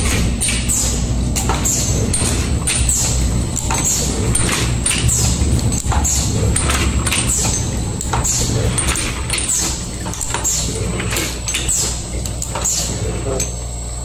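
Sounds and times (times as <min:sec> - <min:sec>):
machine clack and hiss: 0:00.0 - 0:13.8
machine humming: 0:00.0 - 0:14.0.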